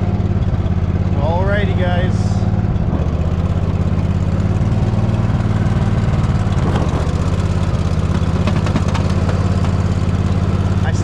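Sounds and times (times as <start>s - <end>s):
riding lawn mower engine running: 0.0s - 11.0s.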